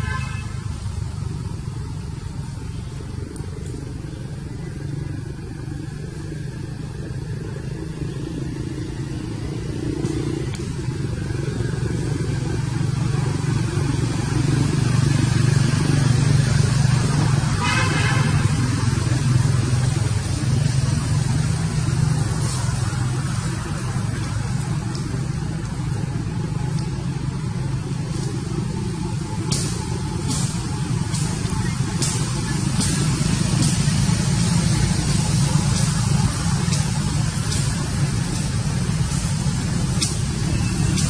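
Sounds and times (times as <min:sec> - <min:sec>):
low motor hum: 0:00.0 - 0:41.0.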